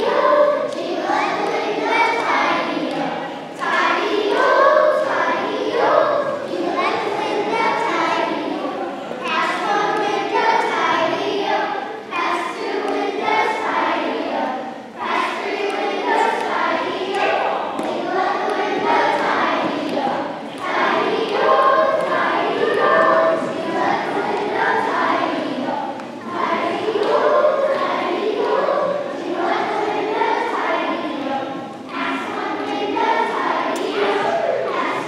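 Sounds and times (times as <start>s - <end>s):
children singing together: 0.0s - 35.0s.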